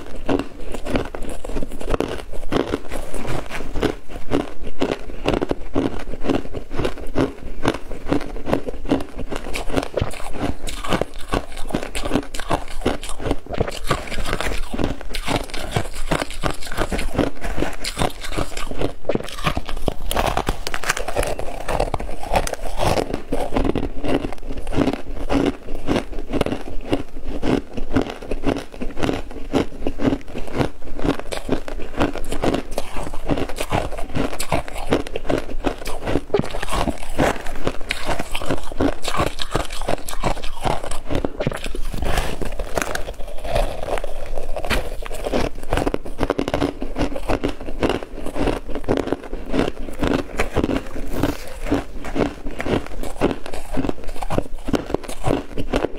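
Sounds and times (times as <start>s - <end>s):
crunching ice: 0.0s - 55.9s.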